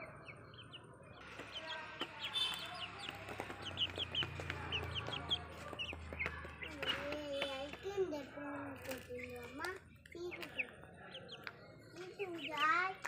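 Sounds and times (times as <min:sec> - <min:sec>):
chick peeping: 0:00.0 - 0:07.8, 0:10.1 - 0:13.0.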